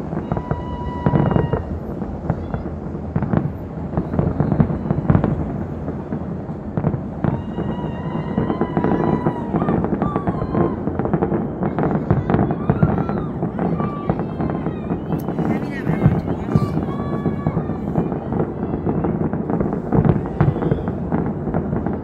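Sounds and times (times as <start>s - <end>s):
firework whistling: 0.0s - 22.0s
fireworks bangs and crackling: 0.0s - 22.0s.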